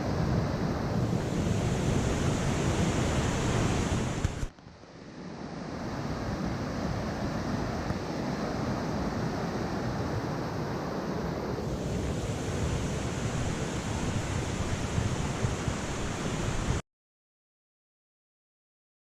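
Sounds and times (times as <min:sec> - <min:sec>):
mountain stream flowing: 0:00.0 - 0:16.8.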